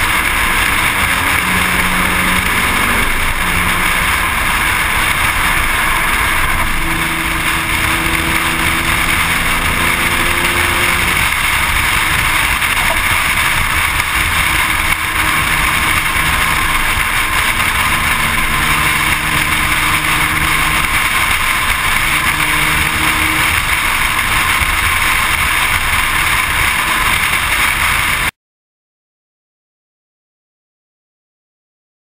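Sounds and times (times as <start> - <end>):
car driving at speed: 0.0 - 28.3.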